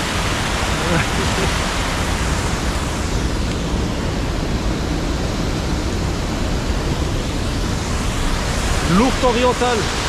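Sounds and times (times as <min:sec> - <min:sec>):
river water rushing through dam: 0:00.0 - 0:10.0.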